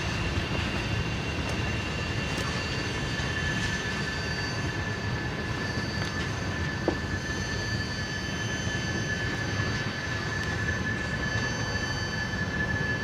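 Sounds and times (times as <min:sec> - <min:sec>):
train wheels rumbling on rail: 0:00.0 - 0:13.0
high-pitched wheel squeal: 0:01.6 - 0:13.0.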